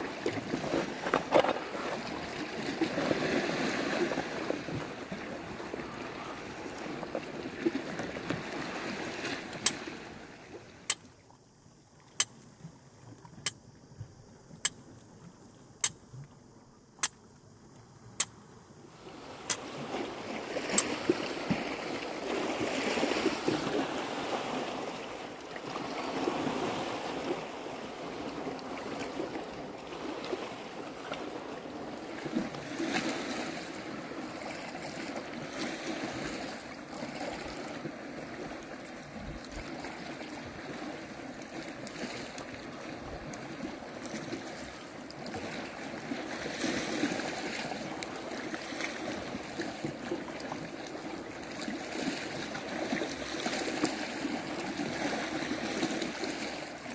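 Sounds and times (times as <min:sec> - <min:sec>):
sea surf: 0:00.0 - 0:11.0, 0:18.9 - 0:56.9
wind: 0:00.0 - 0:56.9.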